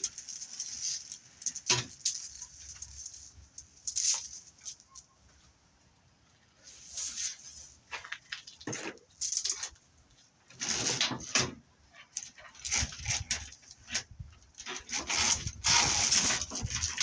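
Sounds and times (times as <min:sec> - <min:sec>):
metal cable rattling and scraping: 0:00.0 - 0:05.1, 0:06.9 - 0:09.8, 0:10.5 - 0:17.0.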